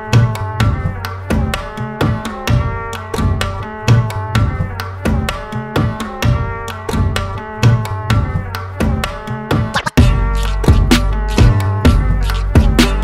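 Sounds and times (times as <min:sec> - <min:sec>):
music with steady drum beat: 0:00.0 - 0:13.0.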